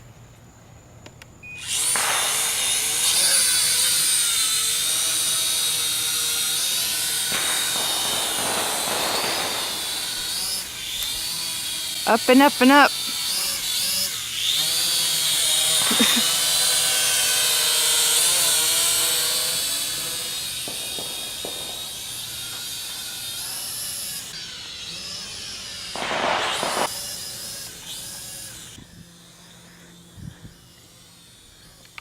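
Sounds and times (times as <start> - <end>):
drone propellers whining: 1.6 - 32.0.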